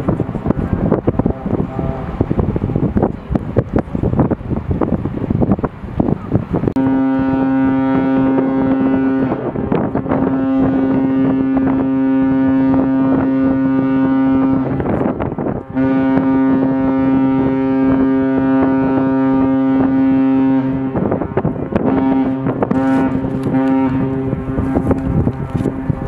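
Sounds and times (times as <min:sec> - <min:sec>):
ship horn blast: 0:00.0 - 0:03.9, 0:06.2 - 0:26.0
wind buffeting microphone: 0:00.0 - 0:26.0.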